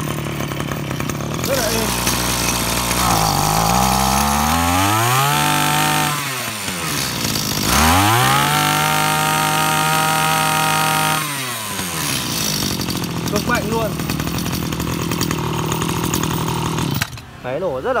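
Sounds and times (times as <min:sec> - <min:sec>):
brush cutter engine revving: 0:00.0 - 0:18.0.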